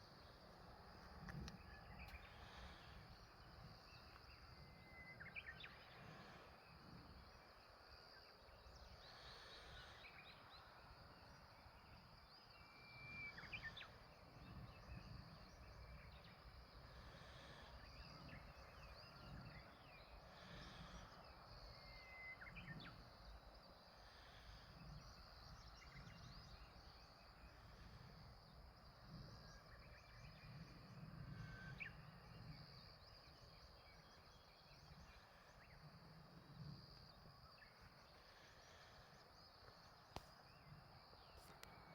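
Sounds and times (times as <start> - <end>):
faint birds chirping: 0.0 - 41.9.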